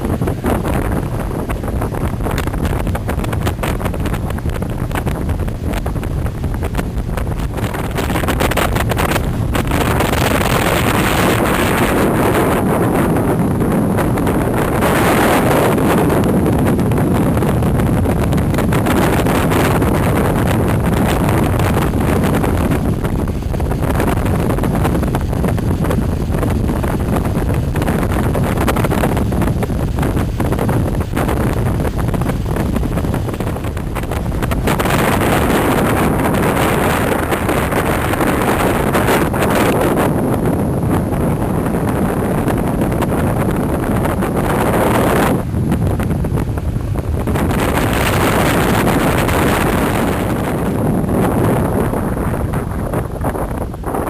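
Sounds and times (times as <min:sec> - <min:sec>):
boat engine and water rushing: 0:00.0 - 0:54.0
wind buffeting microphone: 0:00.0 - 0:54.0.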